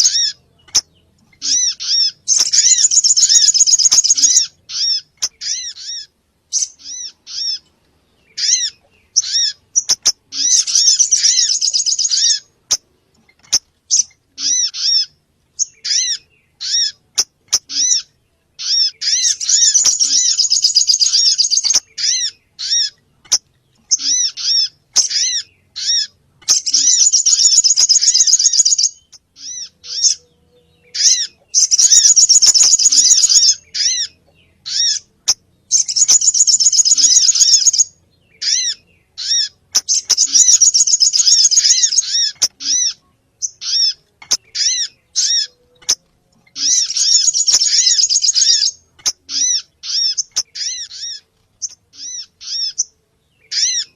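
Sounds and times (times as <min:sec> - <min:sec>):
birds chattering: 0:00.0 - 0:53.9
small birds calling: 0:00.0 - 0:53.9.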